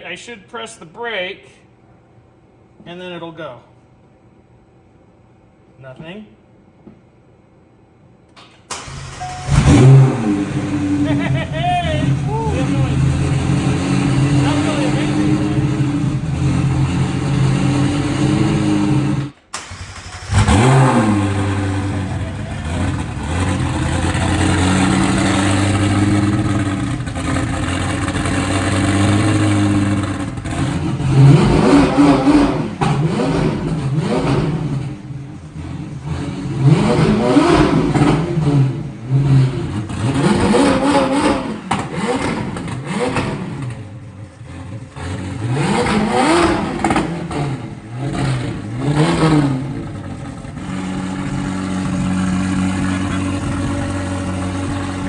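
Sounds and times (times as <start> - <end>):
car engine idling and revving: 8.8 - 55.0.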